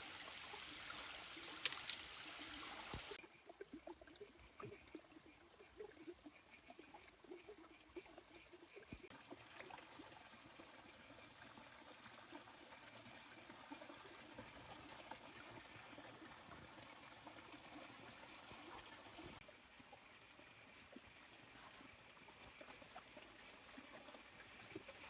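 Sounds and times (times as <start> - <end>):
faint trickling water: 0.0 - 25.0.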